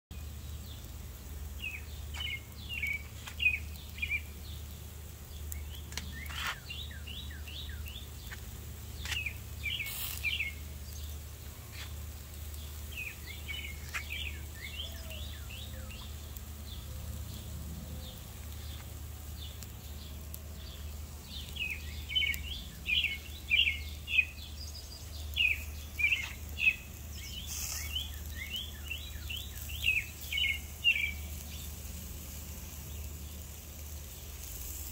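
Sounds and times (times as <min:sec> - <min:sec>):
birds chirping: 0:00.1 - 0:34.9
steady low hum: 0:00.2 - 0:34.7.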